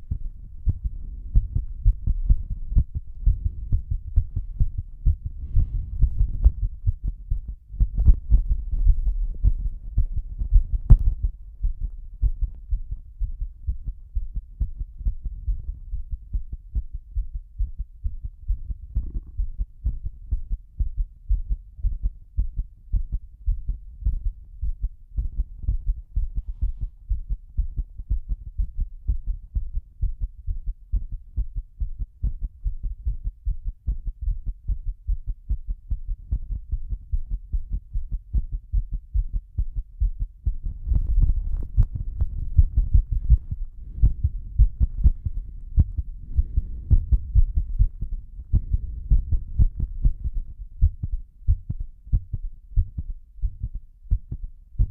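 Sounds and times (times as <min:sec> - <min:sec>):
heartbeat thuds: 0:00.0 - 0:54.9.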